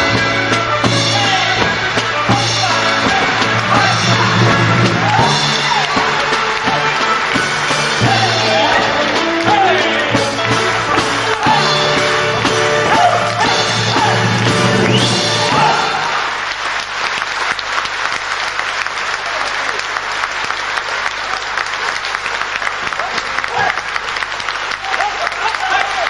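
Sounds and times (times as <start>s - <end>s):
audience applause: 0.0s - 26.0s
folk dance music: 0.0s - 26.0s.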